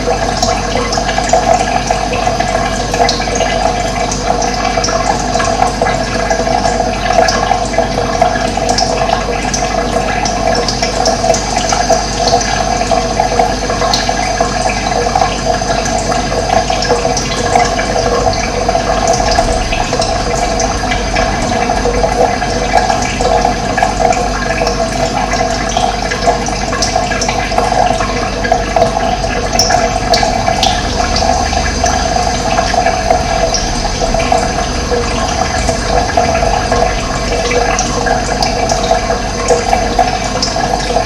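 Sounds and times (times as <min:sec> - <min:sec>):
running water: 0:00.0 - 0:41.0.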